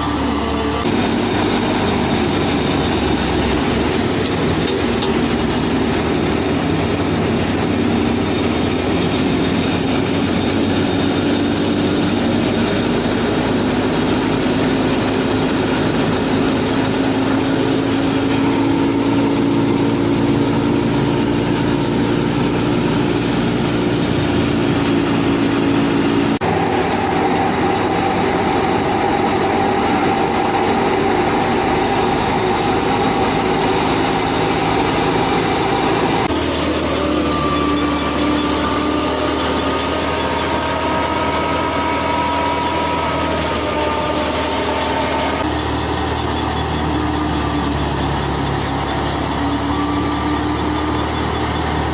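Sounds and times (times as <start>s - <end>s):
small tractor motor droning: 0.0s - 51.9s.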